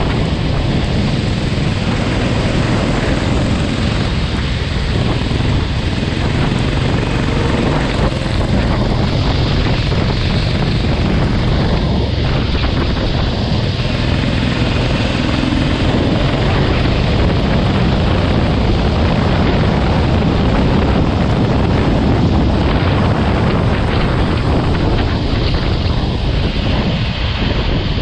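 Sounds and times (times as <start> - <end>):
go-kart engine running: 0.0 - 28.0
wind buffeting microphone: 0.0 - 28.0.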